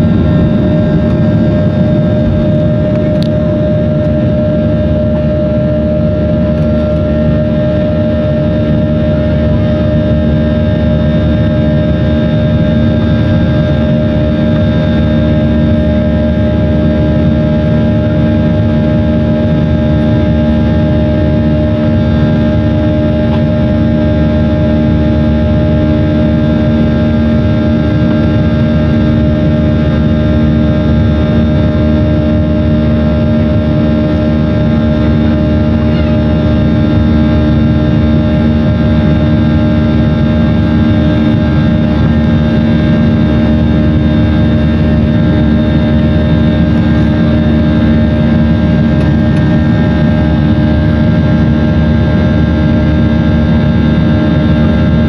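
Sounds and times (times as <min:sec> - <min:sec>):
jet engines at takeoff power: 0:00.0 - 0:55.0.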